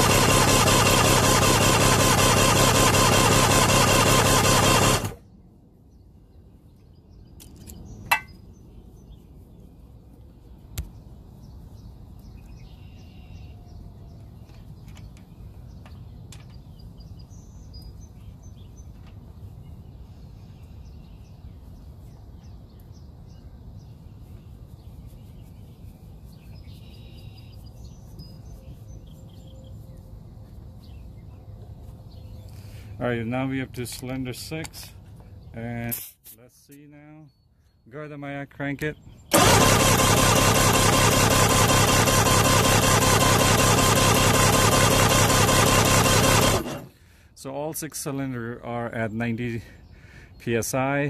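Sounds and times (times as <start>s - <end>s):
faint birds chirping: 4.8s - 39.7s, 40.3s - 51.0s.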